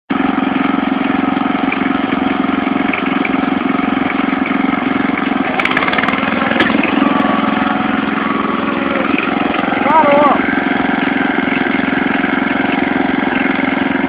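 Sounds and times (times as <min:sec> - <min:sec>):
riding lawn mower engine: 0:00.1 - 0:14.0.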